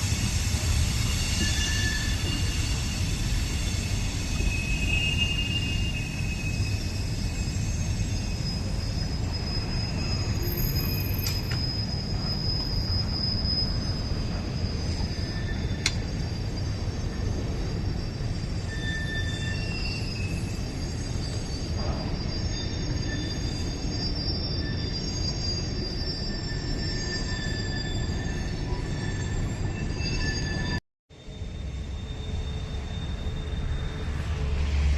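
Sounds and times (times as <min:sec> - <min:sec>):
high wheel squeals: 0:00.0 - 0:34.9
train rumbling on rails: 0:00.0 - 0:34.9.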